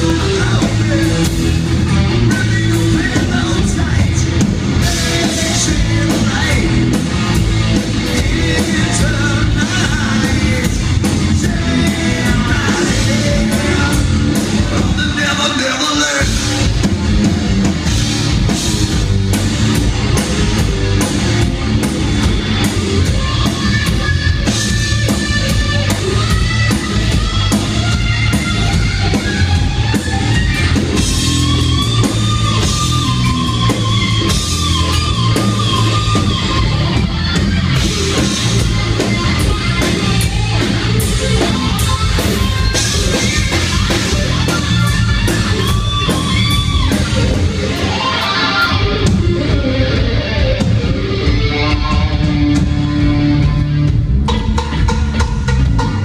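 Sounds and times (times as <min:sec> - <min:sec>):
drum kit pounding: 0:00.0 - 0:56.0
electric guitar: 0:00.0 - 0:56.0
live rock band playing: 0:00.0 - 0:56.0.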